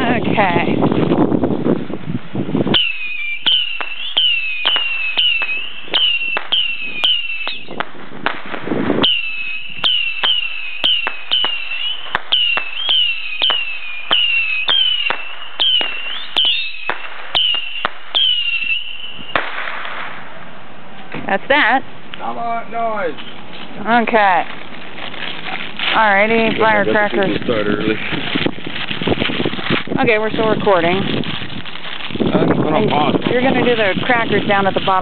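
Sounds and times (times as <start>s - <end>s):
whistling firework rockets: 2.6s - 21.3s, 25.1s - 35.0s
firework pops: 2.7s - 20.4s, 23.1s - 35.0s.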